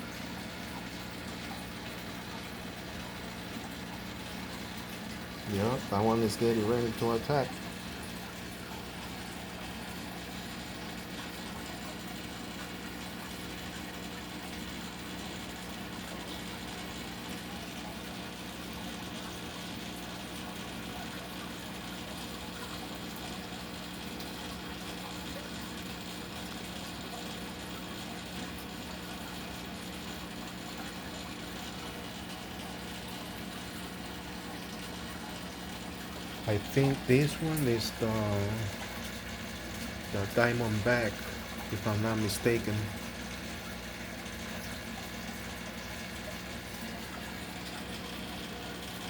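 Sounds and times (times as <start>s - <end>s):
mechanical hum: 0.0s - 49.0s.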